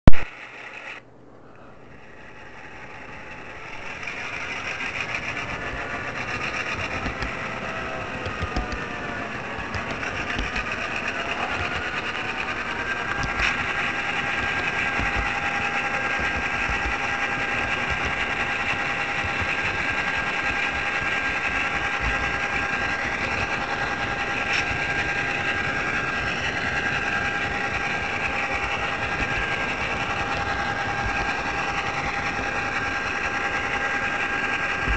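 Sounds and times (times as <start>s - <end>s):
model train motor whining: 0.1s - 1.0s, 1.7s - 34.9s
wheels clicking on rails: 1.8s - 34.9s.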